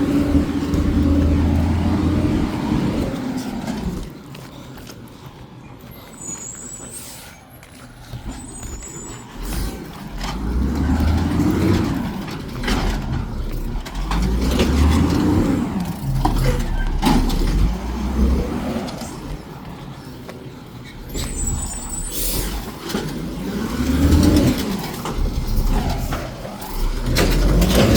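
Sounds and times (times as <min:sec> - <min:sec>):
garbage truck engine revving: 0:00.0 - 0:04.2, 0:08.0 - 0:27.9.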